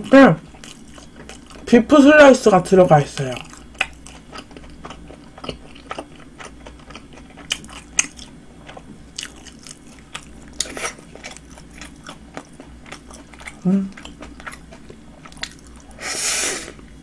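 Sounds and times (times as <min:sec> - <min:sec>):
person chewing food: 0:00.0 - 0:01.8, 0:03.2 - 0:17.0.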